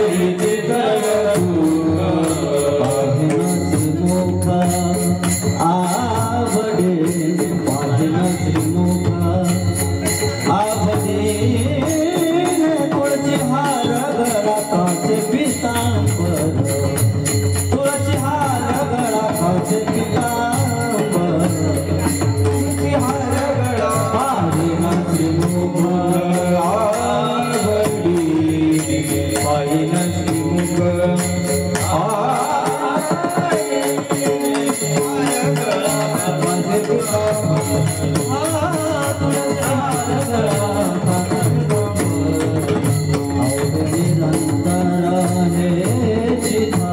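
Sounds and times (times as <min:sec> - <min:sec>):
devotional singing: 0:00.0 - 0:46.9
rhythmic jingling percussion: 0:00.0 - 0:46.9.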